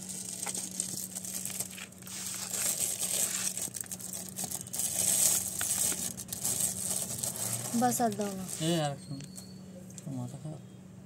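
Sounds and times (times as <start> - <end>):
foil paper plates crinkling: 0.0 - 9.0.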